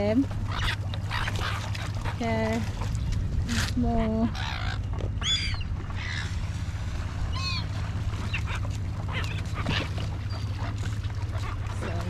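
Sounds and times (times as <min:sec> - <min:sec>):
gulls squawking: 0:00.0 - 0:12.0
steady low rumble: 0:00.0 - 0:12.0.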